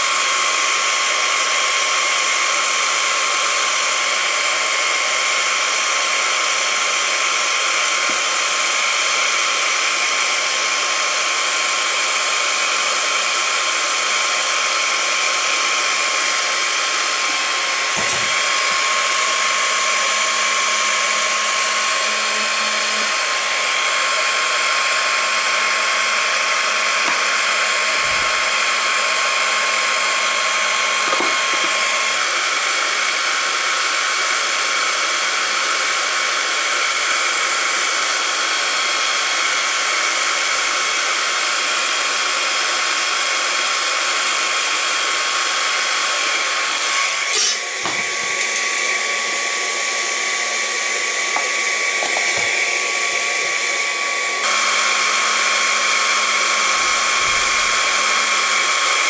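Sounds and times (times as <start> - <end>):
hot-air welding gun blowing: 0.0 - 59.0.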